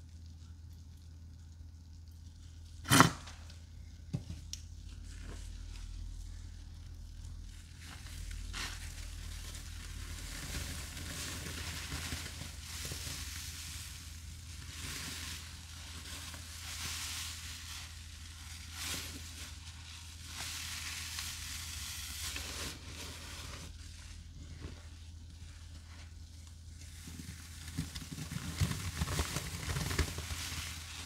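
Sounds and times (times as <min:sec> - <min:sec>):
soapy sponges squished by hand: 0:03.7 - 0:31.0.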